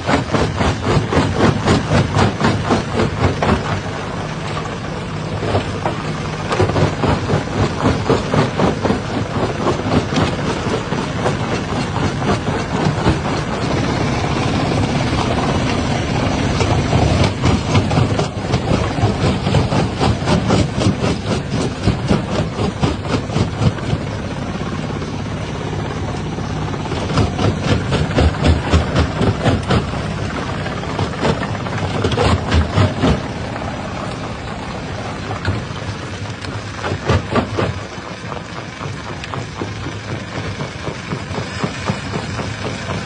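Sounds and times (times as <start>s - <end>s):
rock crusher rumbling: 0.0s - 43.0s.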